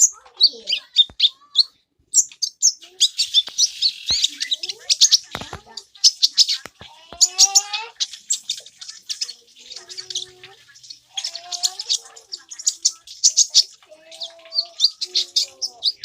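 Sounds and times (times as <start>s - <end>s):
sharp bird clicks: 0.0s - 16.0s
small bird singing high chirps: 0.0s - 16.0s.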